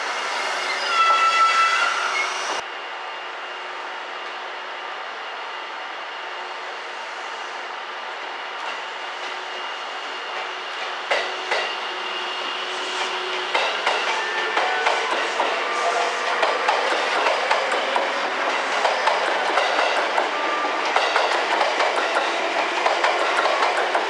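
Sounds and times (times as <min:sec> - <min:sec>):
electric train running rumble: 0:01.8 - 0:24.0.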